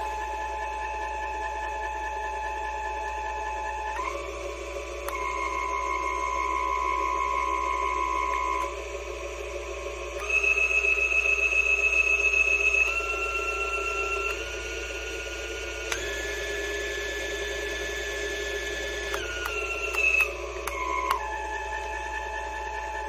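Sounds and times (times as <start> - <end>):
table saw motor whine: 0.0 - 23.0.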